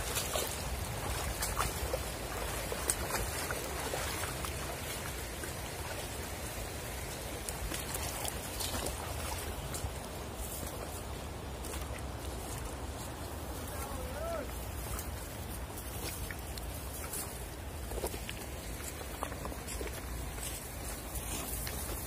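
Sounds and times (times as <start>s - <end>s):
light footsteps and rustles: 0.0s - 22.0s
stream running over rocks: 0.0s - 22.0s.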